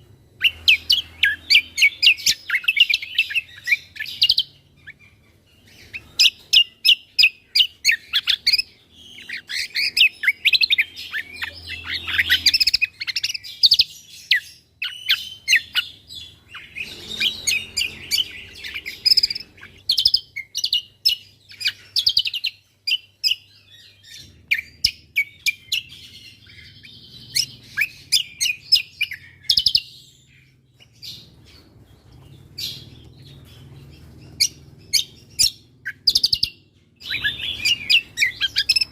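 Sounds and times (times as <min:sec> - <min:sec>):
bird singing high chirps: 0:00.0 - 0:38.9.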